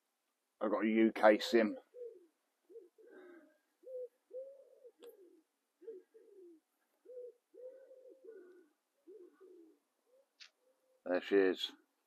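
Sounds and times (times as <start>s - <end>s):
pigeon cooing: 1.2s - 11.0s.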